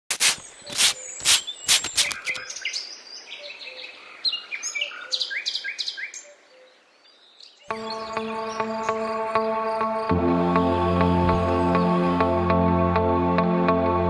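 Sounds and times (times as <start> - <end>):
birds chirping and whistling: 0.4 - 12.3.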